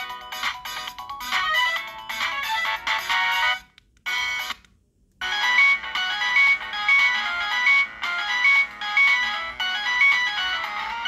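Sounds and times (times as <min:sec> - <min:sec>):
polyphonic ringtone melodies: 0:00.0 - 0:03.5, 0:05.2 - 0:11.0.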